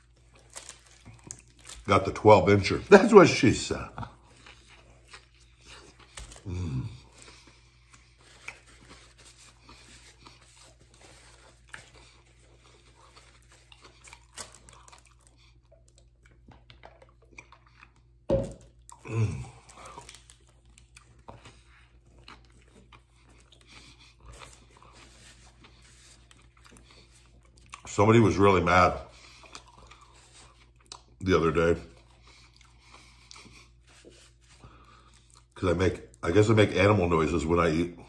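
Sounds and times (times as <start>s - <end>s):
man chewing sandwich: 0.0s - 36.7s.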